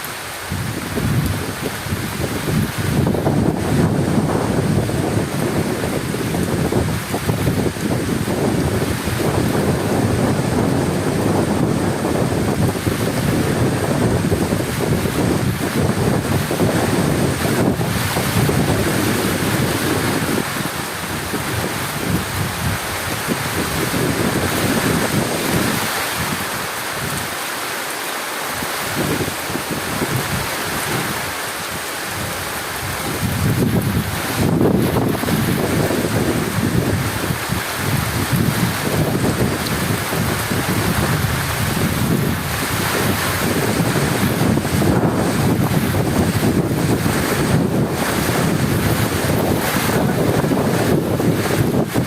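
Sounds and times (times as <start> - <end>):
heavy rain falling: 0.0 - 52.0
thunder rumbling: 0.5 - 27.2, 32.1 - 52.0.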